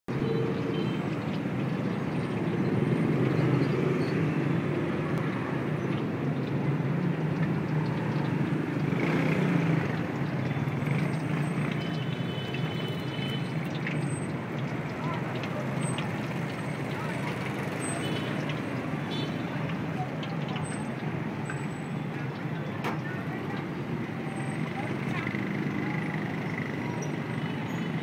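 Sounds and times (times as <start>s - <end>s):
street traffic rumble: 0.1s - 28.0s.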